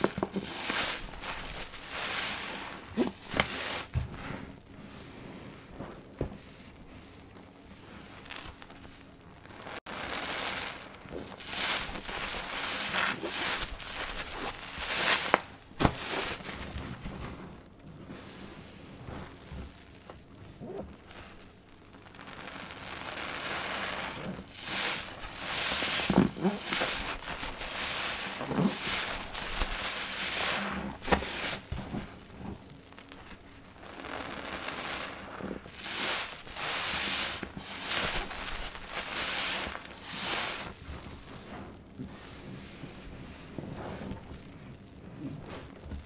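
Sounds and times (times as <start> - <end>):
sponge squelching in soapy water: 0.0 - 8.8, 9.6 - 20.0, 23.4 - 44.4.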